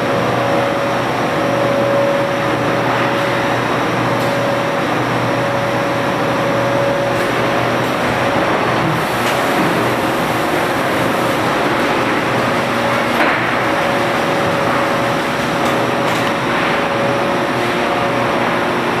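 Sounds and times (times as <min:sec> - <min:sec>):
industrial machinery humming: 0:00.0 - 0:19.0.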